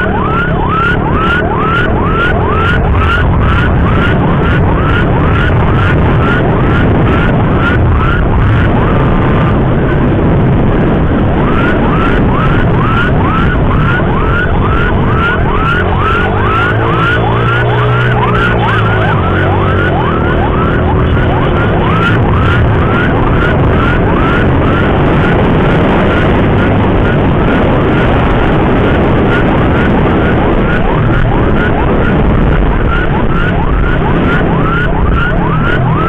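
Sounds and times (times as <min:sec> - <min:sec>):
traffic rumble: 0:00.0 - 0:36.0
wind: 0:00.0 - 0:36.0
yelp emergency siren: 0:00.0 - 0:36.0.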